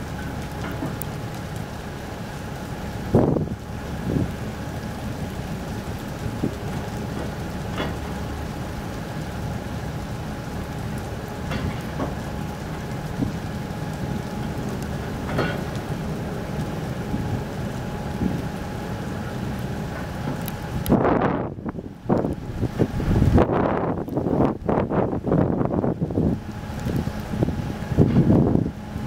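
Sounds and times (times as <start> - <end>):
ship engines rumbling: 0.0 - 29.0.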